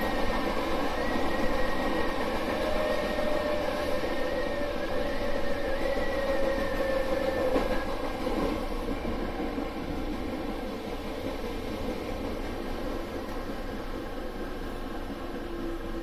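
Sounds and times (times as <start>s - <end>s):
faint train whine: 0.0s - 16.0s
train wheels rumbling on rail: 0.0s - 16.0s.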